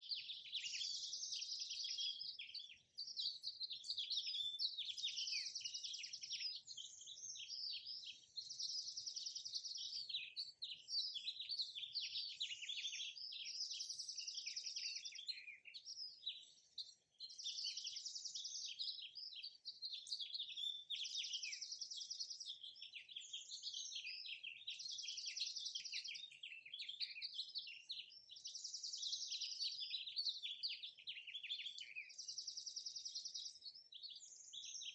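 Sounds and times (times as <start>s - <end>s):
birds chirping and singing: 0.0s - 34.9s.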